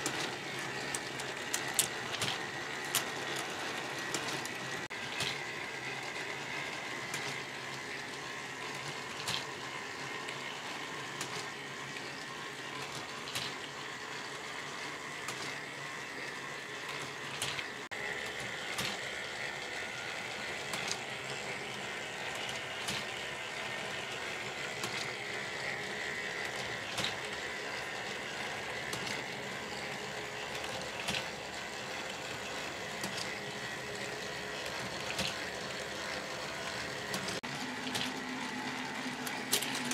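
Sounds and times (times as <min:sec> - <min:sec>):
plastic gears whirring and rattling: 0:00.0 - 0:39.9.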